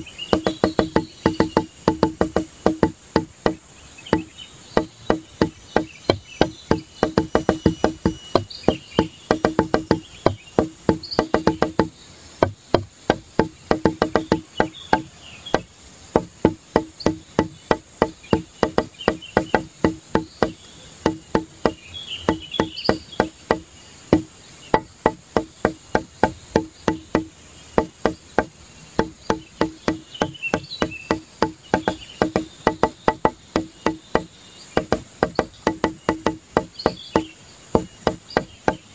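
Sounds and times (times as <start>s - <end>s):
music with quick percussive beat: 0.0s - 38.9s.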